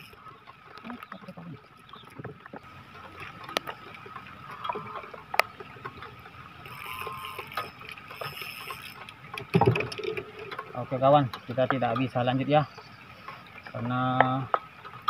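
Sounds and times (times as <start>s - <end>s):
light rain on water and wood: 0.0s - 15.0s.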